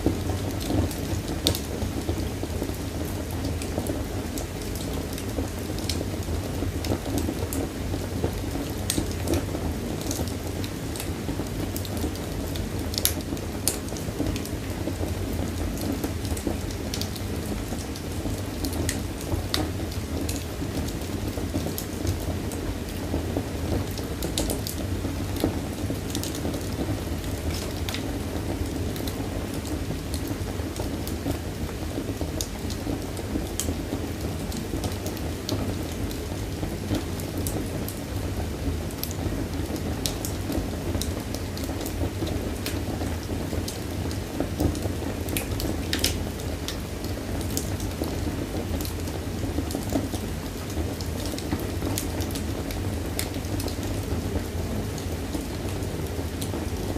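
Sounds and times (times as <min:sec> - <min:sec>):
fire flames rumbling: 0:00.0 - 0:56.9
fire crackling pops and snaps: 0:00.1 - 0:56.9.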